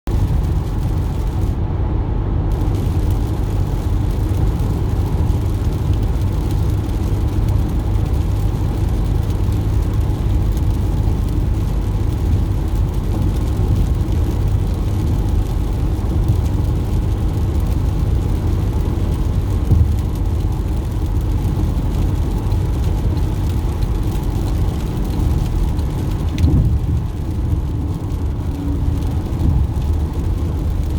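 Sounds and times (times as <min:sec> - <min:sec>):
car road and engine rumble: 0:00.0 - 0:30.9.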